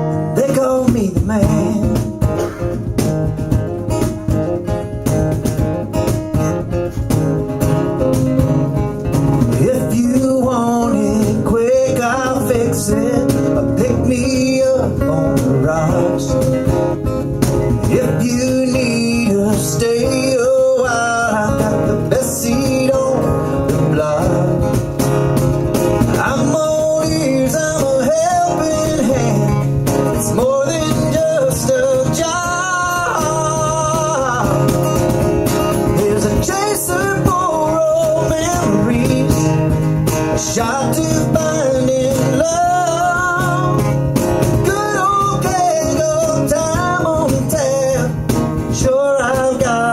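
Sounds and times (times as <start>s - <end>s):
acoustic guitars playing: 0.0s - 49.9s.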